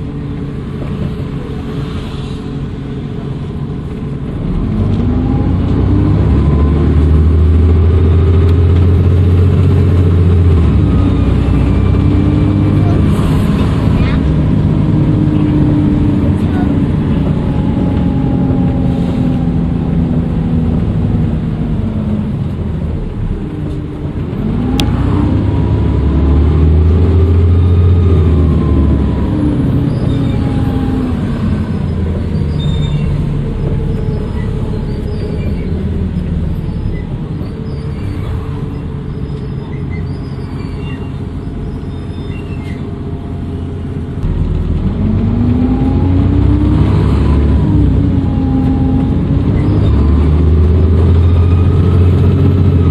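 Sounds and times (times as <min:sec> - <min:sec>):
bus engine accelerating: 0:00.0 - 0:52.9.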